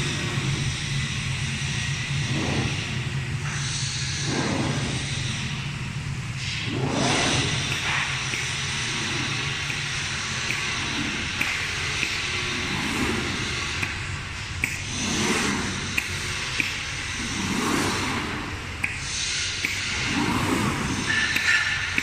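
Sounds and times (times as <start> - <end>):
machine low hum: 0.0 - 22.0.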